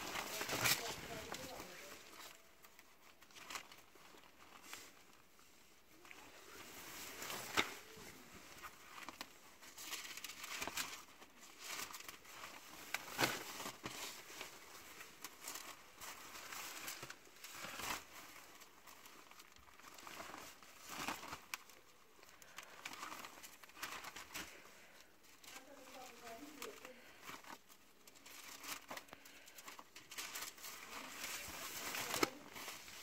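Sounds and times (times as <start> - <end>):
paper sheets rustling: 0.0 - 5.2, 6.0 - 33.0.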